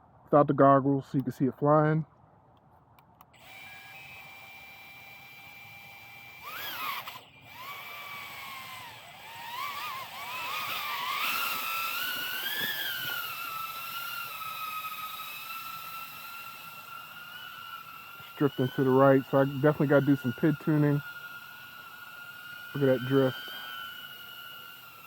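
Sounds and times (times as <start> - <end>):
drone motors whining: 3.2 - 25.0.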